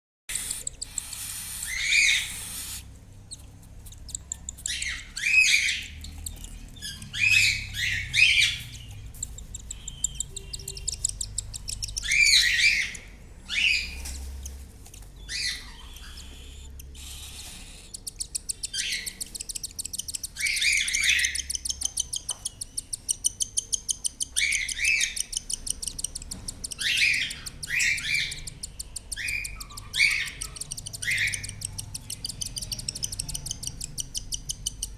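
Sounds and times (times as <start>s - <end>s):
cockatiels scratchy calls: 0.3s - 3.4s, 4.0s - 22.5s, 24.3s - 28.6s, 29.2s - 34.9s
rhythmic ticking chatter: 0.3s - 13.5s, 14.3s - 34.9s.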